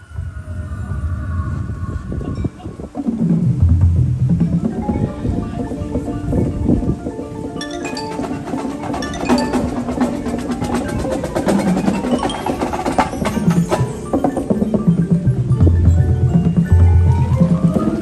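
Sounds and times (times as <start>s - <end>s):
marimba and bells notes: 2.3s - 18.0s
marching band music: 2.9s - 18.0s.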